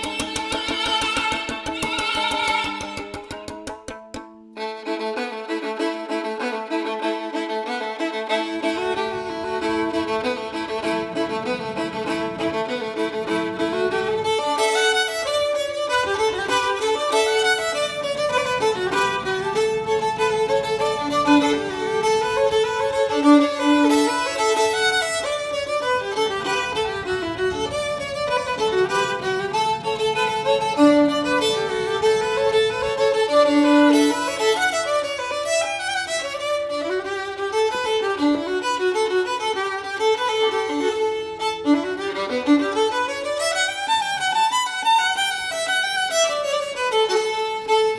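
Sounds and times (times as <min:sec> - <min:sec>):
solo violin playing lively tune: 0:00.0 - 0:47.9.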